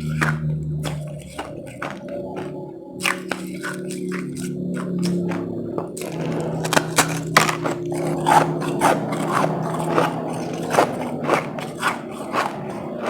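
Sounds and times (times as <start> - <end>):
ice being chewed: 0.0 - 13.0
low hum: 0.0 - 13.0.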